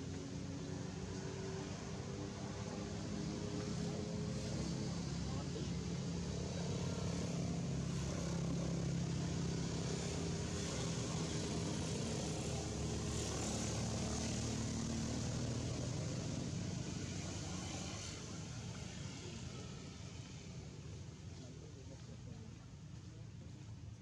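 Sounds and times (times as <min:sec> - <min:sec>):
motor engine running: 0:00.0 - 0:24.0.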